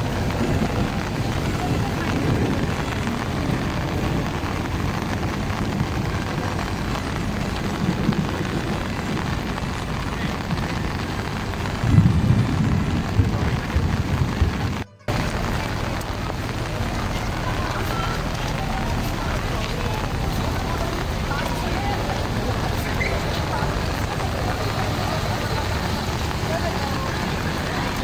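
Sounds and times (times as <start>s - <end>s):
heavy rain hissing: 0.0s - 28.0s
wind buffeting microphone: 0.0s - 28.0s.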